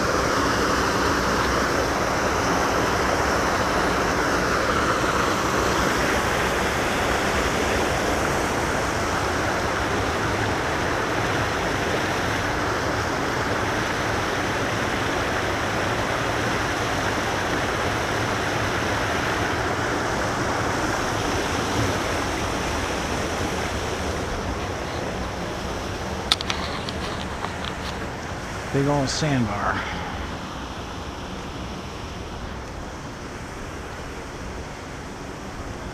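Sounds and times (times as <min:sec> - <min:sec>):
creek water rushing over rocks: 0:00.0 - 0:35.9.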